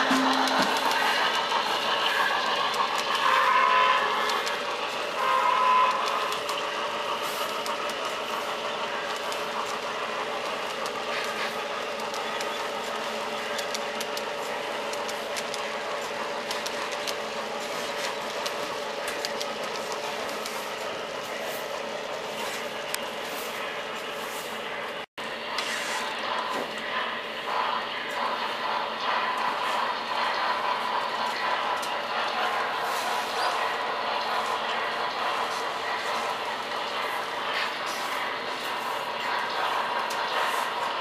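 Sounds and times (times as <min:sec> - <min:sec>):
model train wheels rumbling: 0:00.0 - 0:41.0.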